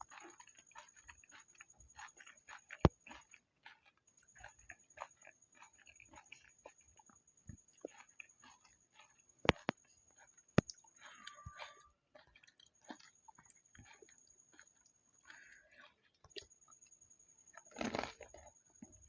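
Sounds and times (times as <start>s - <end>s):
chewing and crunching: 0.0s - 19.0s.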